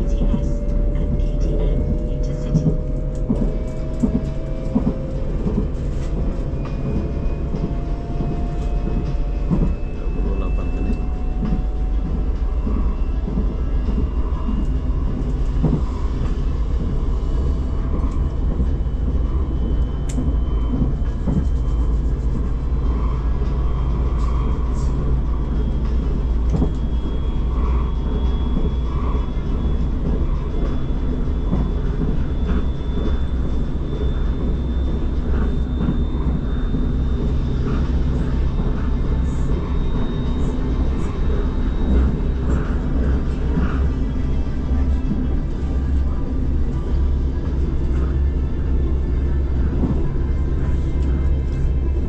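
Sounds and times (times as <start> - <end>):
faint rising whine: 0.0 - 52.0
train rumble: 0.0 - 52.0.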